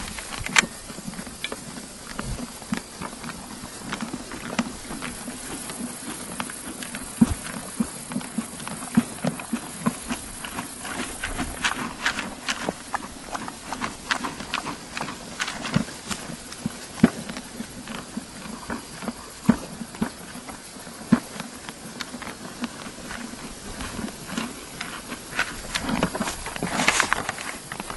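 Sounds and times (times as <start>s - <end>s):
horse hooves knocking and clicking: 0.0s - 27.9s.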